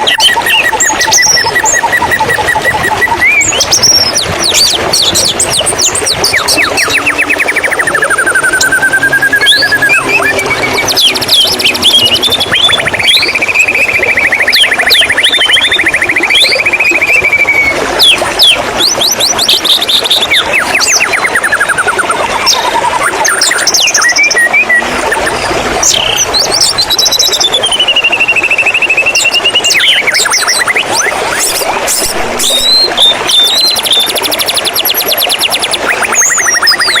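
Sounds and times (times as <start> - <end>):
bird singing trills and whistles: 0.0 - 37.0.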